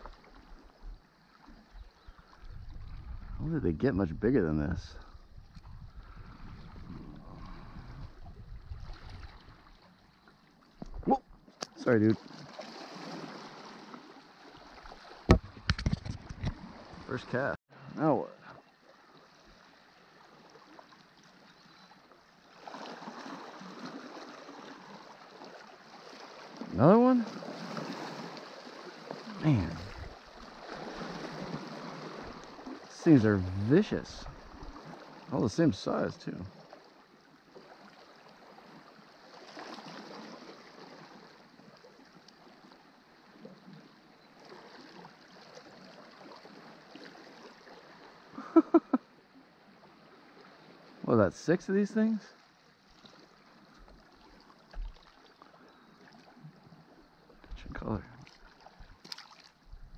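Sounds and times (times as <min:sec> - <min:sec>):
waves lapping against rocks: 0:04.6 - 0:17.5, 0:18.5 - 0:48.9, 0:49.6 - 0:59.9.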